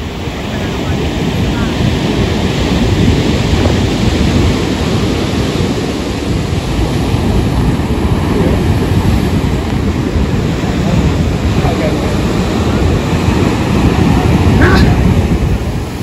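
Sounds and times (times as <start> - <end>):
surf breaking on rocks: 0.0 - 16.0
wind rumbling on microphone: 0.0 - 16.0.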